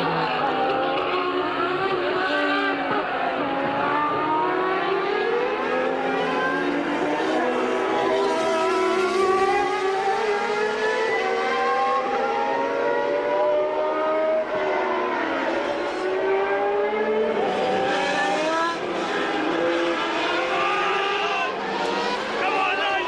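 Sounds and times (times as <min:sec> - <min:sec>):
racing car engines at high revs: 0:00.0 - 0:23.0.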